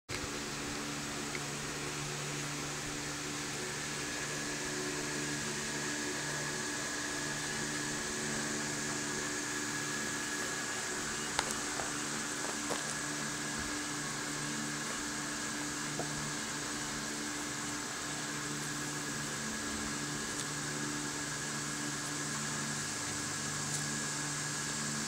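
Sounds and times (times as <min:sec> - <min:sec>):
mechanical hum and hiss: 0:00.1 - 0:25.0.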